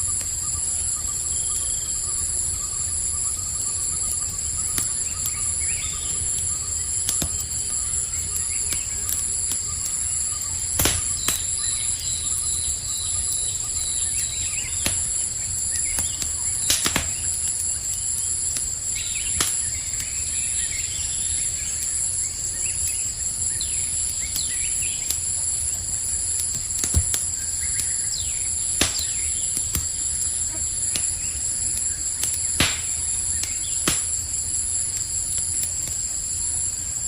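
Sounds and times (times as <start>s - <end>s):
campfire crackling: 0.0s - 37.0s
crickets chirping: 0.0s - 37.0s
low rumble of flames: 0.0s - 37.0s
sharp pops of fire: 3.6s - 36.3s.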